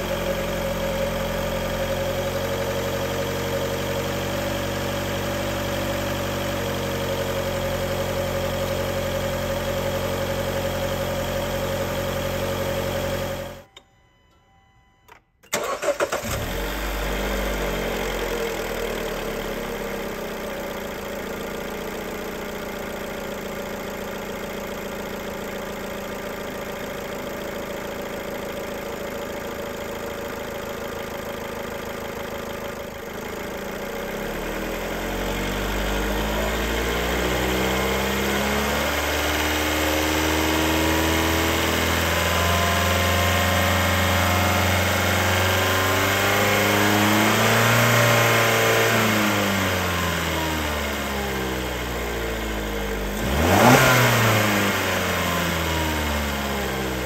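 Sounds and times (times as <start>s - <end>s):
car engine starting and idling: 0.0s - 57.0s.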